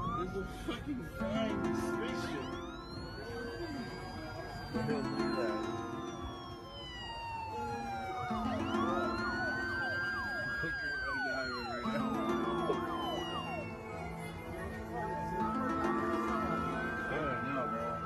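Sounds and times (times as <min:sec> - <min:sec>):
background music: 0:00.0 - 0:18.0
siren wailing: 0:00.0 - 0:18.0.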